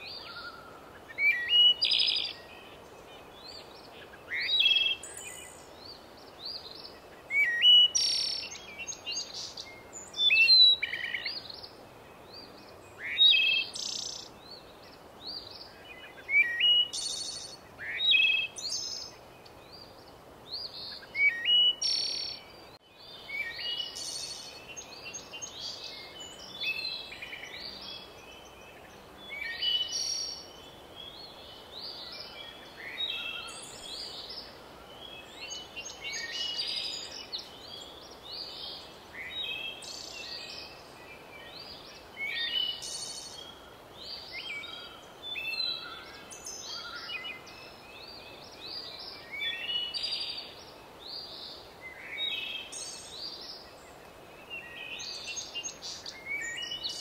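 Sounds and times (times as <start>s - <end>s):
faint steady hiss: 0.0s - 57.0s
songbirds chirping and trilling: 0.0s - 57.0s.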